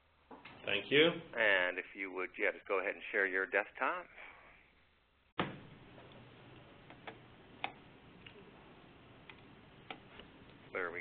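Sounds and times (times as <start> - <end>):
audio line hiss: 0.0 - 11.0.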